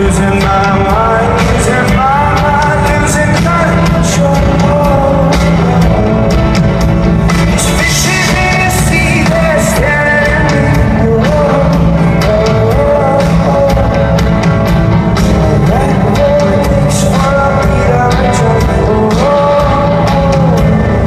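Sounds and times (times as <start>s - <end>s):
person singing: 0.0s - 21.0s
rock band playing live: 0.0s - 21.0s.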